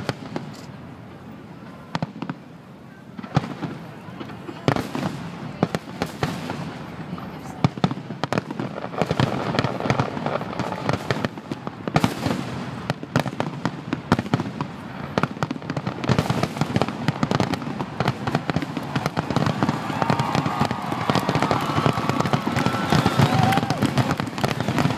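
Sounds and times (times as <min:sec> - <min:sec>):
fireworks bangs and crackles: 0:00.0 - 0:24.9.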